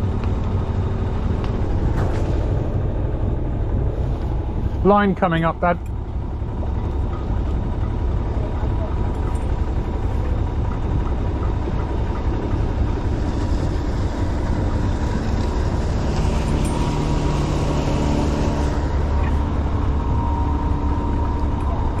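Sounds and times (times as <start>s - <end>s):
boat engine running: 0.0s - 22.0s
steady hum: 0.0s - 22.0s.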